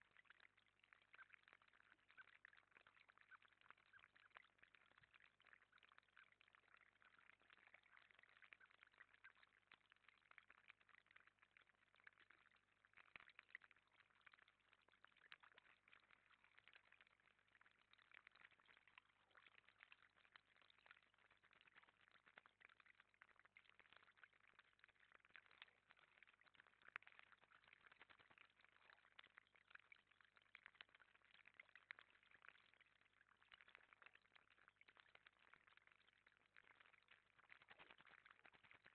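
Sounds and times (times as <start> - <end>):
water trickling over stones: 0.0 - 38.9.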